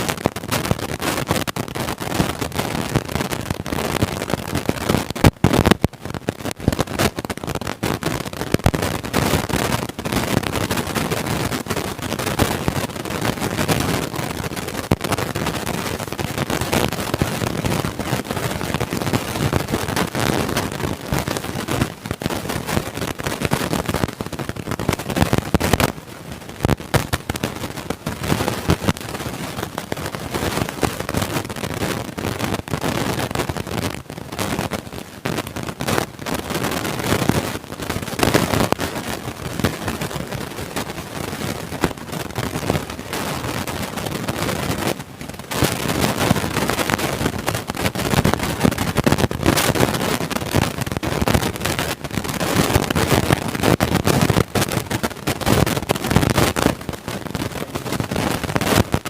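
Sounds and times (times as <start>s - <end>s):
damaged microphone crackling: 0.0s - 59.0s.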